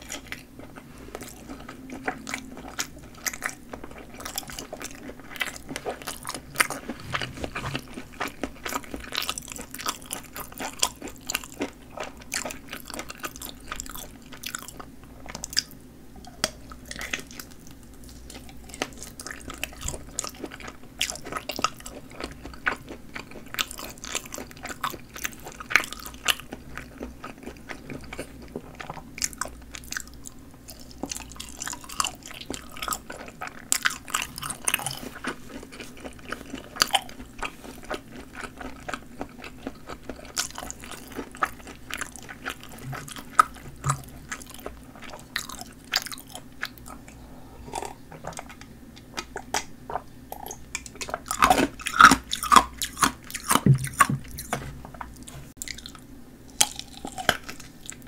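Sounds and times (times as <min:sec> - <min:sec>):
wet chewing of sausages: 0:00.0 - 0:58.0.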